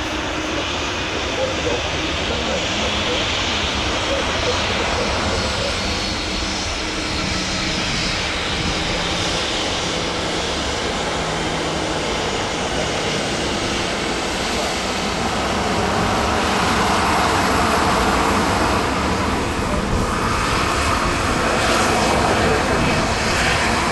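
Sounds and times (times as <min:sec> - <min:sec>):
jet engines roaring: 0:00.0 - 0:23.9.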